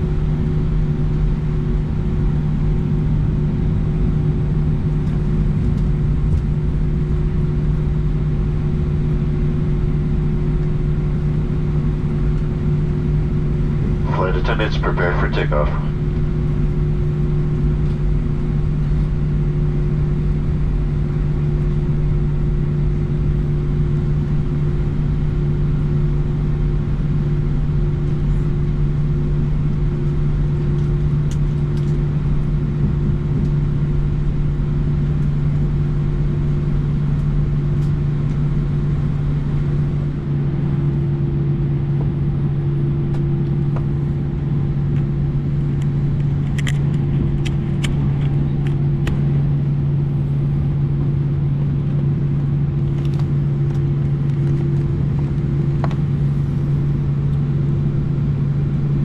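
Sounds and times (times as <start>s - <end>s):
jet engines idling hum: 0.0s - 59.0s.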